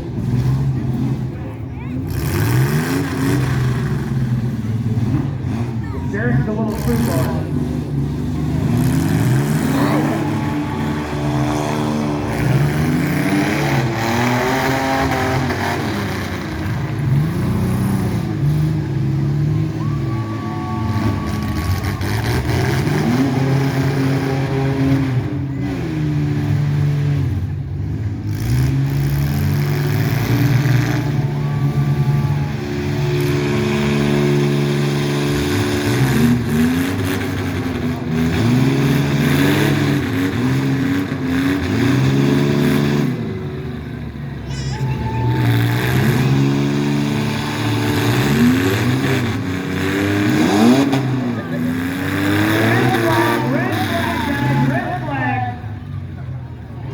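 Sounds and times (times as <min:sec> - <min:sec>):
truck engine revving: 0:00.0 - 0:56.9.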